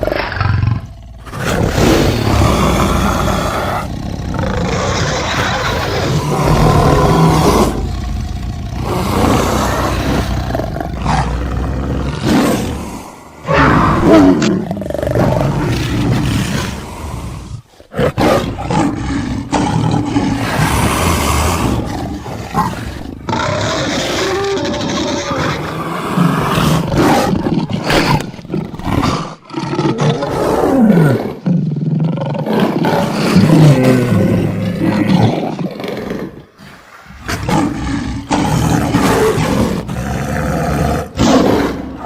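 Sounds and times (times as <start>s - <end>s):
big cat roars: 0.0s - 42.0s.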